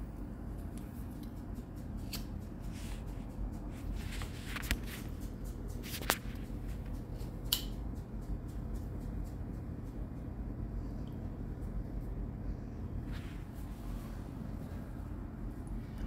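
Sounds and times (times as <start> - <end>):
room hum: 0.0 - 16.0.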